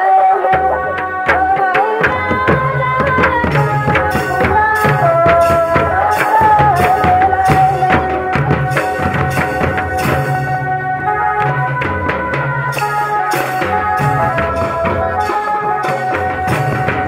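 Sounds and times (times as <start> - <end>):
sustained sliding melody: 0.1 - 17.0
hand drums beaten: 0.5 - 17.0.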